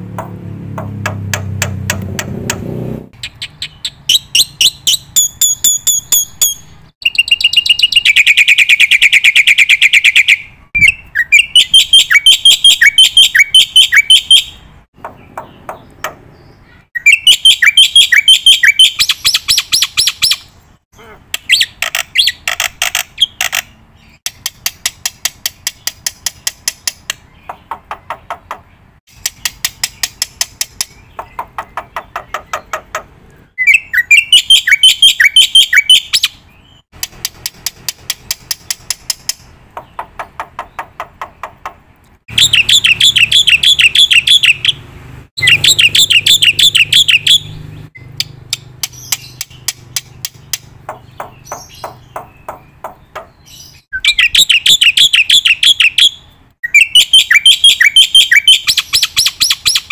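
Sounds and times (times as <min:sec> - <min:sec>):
bird trilling calls: 0:03.2 - 0:24.2, 0:25.6 - 0:36.8, 0:38.5 - 0:59.9.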